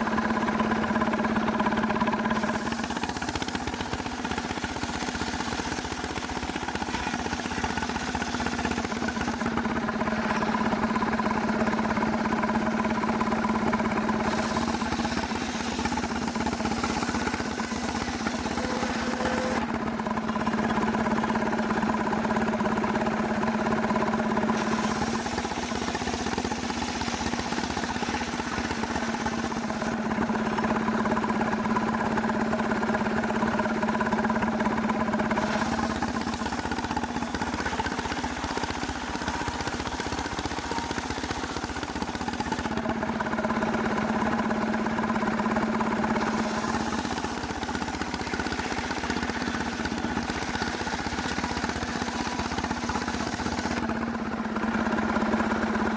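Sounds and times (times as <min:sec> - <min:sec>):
chainsaw engine milling a log: 0:00.0 - 0:55.9.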